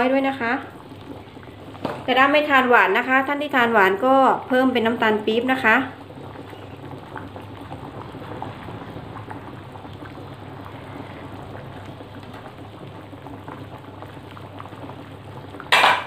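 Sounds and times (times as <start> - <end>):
curry broth boiling and bubbling: 0.0 - 16.0.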